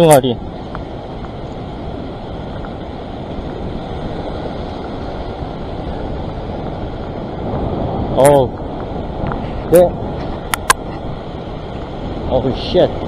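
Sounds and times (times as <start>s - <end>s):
sea surf washing over rocks: 0.0s - 13.0s
wind on microphone: 0.0s - 13.0s.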